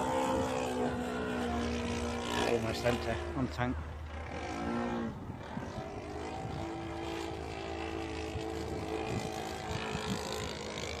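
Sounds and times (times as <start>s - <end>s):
model plane engine droning: 0.0s - 11.0s.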